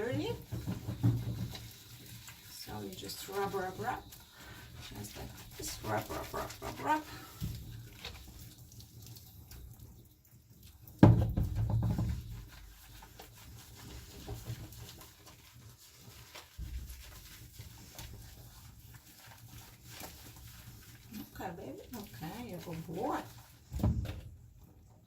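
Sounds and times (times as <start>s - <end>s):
hand rubbing wet soapy fur: 0.0s - 25.0s
light wet patter: 0.0s - 25.0s.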